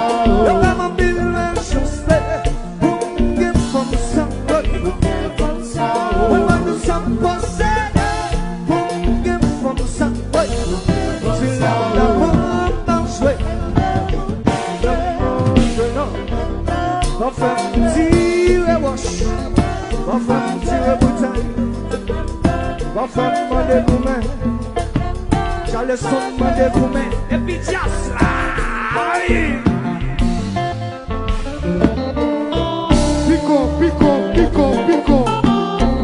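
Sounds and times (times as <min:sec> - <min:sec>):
man singing lead: 0:00.0 - 0:31.1, 0:32.9 - 0:36.0
drum kit beat: 0:00.0 - 0:36.0
guitar: 0:00.0 - 0:36.0.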